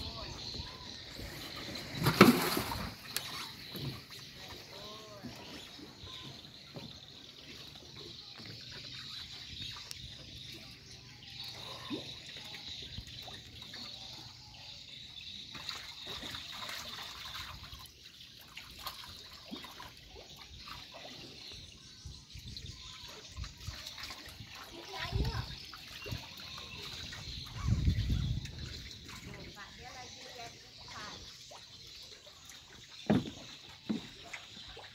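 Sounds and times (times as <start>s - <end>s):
water lapping on wooden planks: 0.0s - 34.9s.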